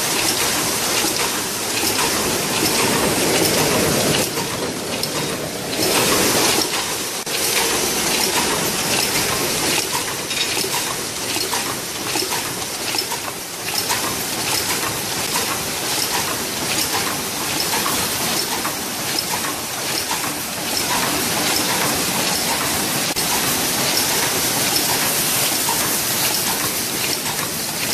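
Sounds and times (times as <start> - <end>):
machine clattering: 0.0 - 27.9
machine clicks: 0.0 - 27.9.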